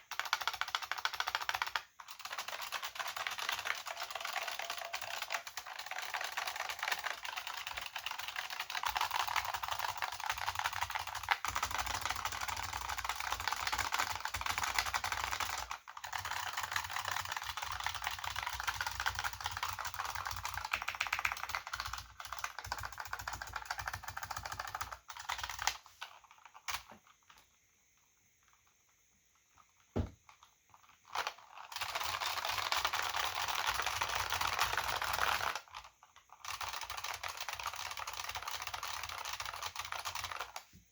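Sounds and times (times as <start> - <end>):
mechanical keyboard typing: 0.0 - 25.8, 31.2 - 40.7.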